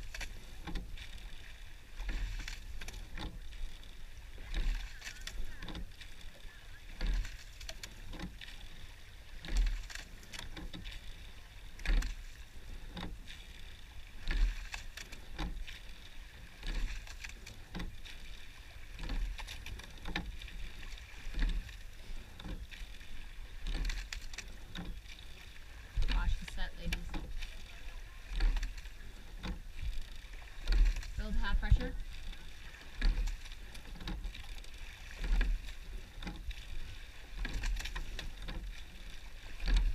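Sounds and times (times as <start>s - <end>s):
oars knocking in oarlocks: 0.0s - 8.7s, 9.3s - 39.9s
oar blades working water: 0.0s - 39.9s.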